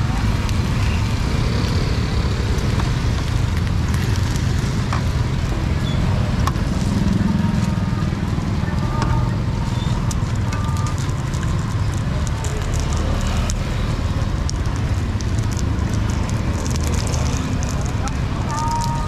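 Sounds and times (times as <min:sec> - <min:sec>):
market voices: 0:00.0 - 0:19.0
motorbike traffic: 0:00.0 - 0:19.0.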